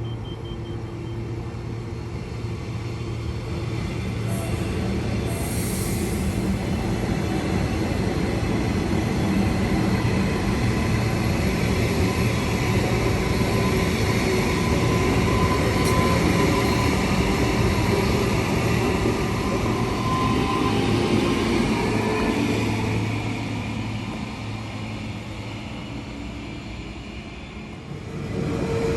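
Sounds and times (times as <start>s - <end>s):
train wheels rumbling on track: 0.1s - 28.9s.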